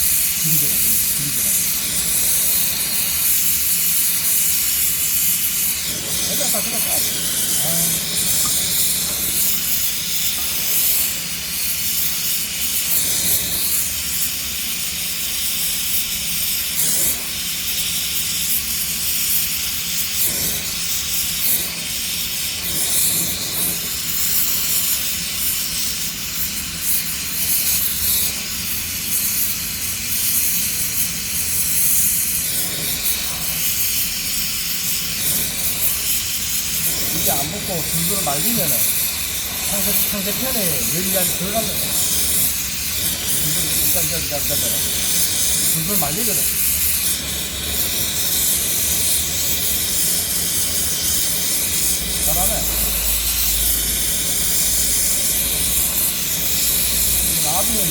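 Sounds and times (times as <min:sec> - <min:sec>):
arc welding crackling hiss: 0:00.0 - 0:57.9.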